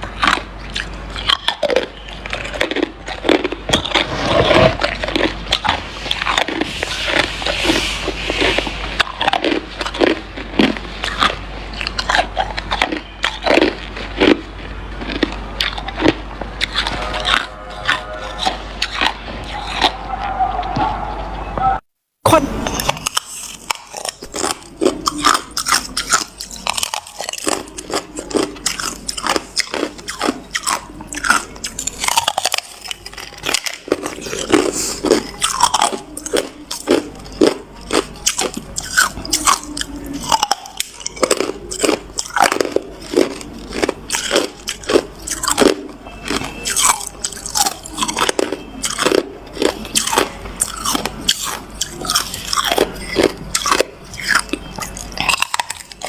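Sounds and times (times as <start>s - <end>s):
person chewing ice: 0.0s - 20.8s, 22.3s - 56.0s.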